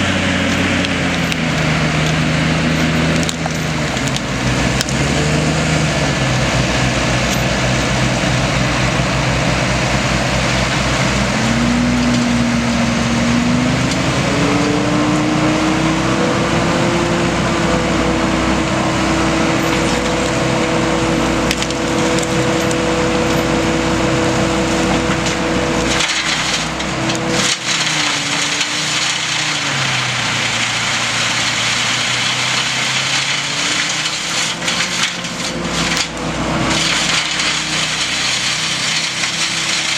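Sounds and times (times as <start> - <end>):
diesel engine under load: 0.0 - 39.9
wood chipper splintering wood: 0.0 - 39.9.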